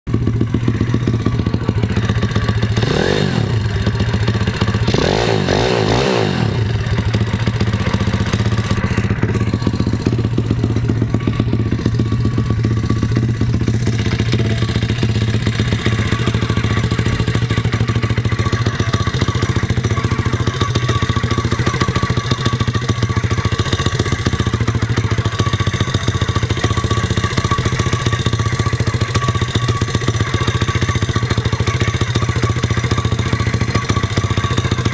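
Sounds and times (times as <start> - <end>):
pit bike engine idling and revving: 0.0 - 34.9.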